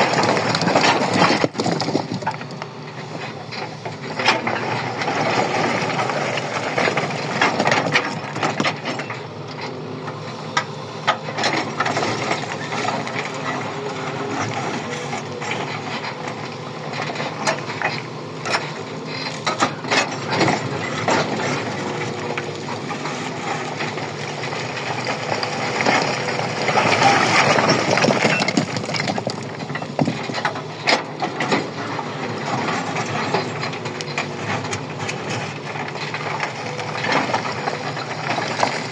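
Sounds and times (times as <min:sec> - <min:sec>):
heavy machinery engine hum: 0:00.0 - 0:38.9
machinery clanks and knocks: 0:00.0 - 0:38.9.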